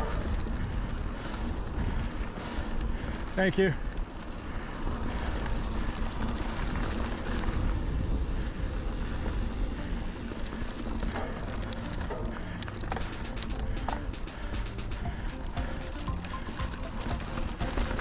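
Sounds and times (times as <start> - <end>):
bike tyre noise on dirt: 0.0 - 18.0.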